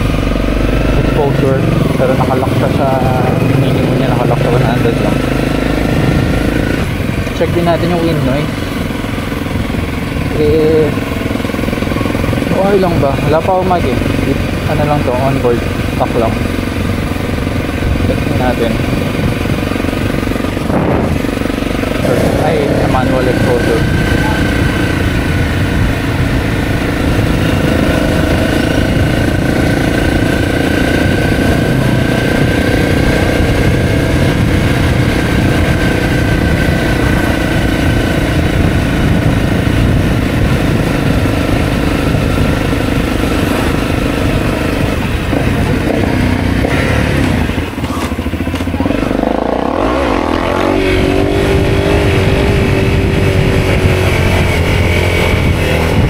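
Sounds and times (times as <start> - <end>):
motorcycle engine running: 0.0 - 56.0
wind rush: 0.0 - 56.0.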